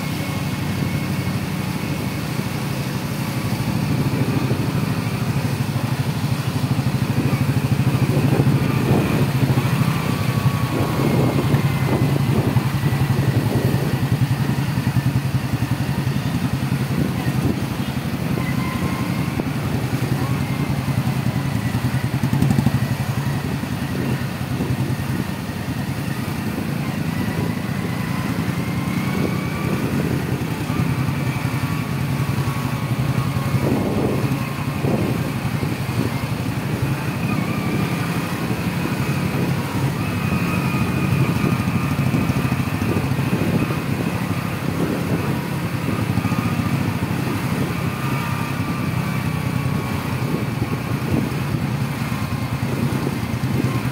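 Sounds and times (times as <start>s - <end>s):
motorbike engine running: 0.0s - 53.9s
road traffic: 0.0s - 53.9s.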